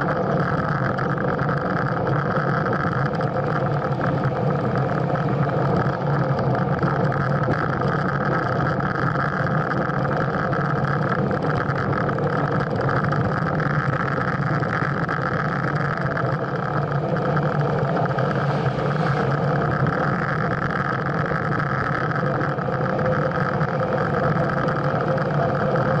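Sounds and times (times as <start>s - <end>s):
tyre on asphalt rumble: 0.0s - 26.0s
wind over camera: 0.0s - 26.0s.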